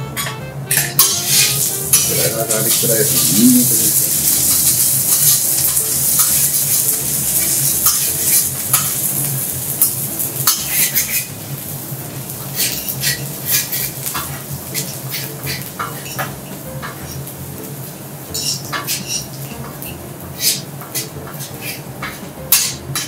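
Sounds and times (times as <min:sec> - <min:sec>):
metal spatula scraping griddle: 0:00.0 - 0:11.4, 0:12.4 - 0:17.3, 0:18.3 - 0:23.0
garlic sizzling in oil: 0:00.8 - 0:23.0.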